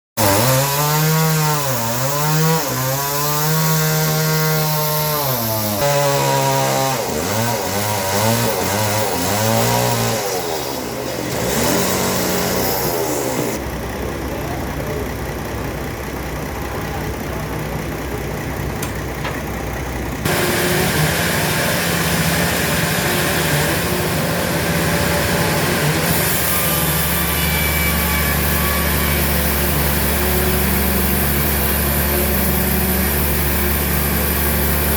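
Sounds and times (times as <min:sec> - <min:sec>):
engine revving: 0:00.2 - 0:13.7, 0:20.2 - 0:34.9.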